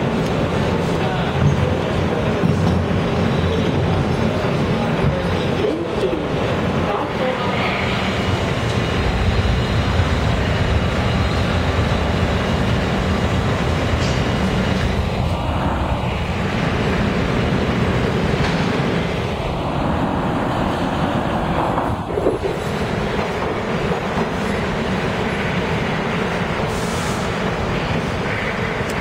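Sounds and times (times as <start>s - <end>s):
subway train rumbling on rails: 0.0s - 29.0s.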